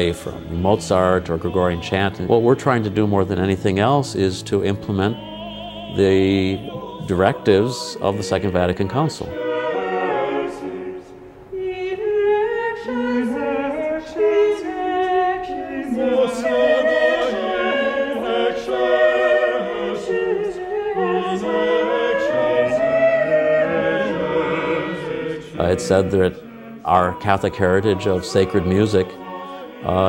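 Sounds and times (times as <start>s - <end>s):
choir singing a cappella: 0.0s - 30.0s.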